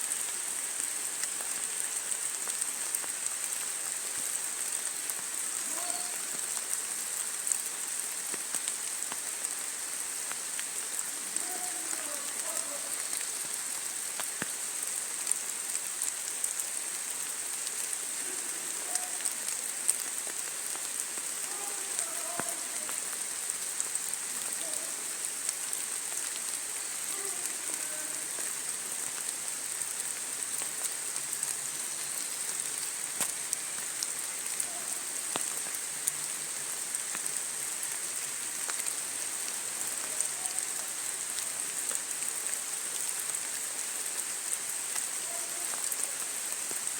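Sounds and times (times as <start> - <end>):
rain hissing: 0.0 - 46.9.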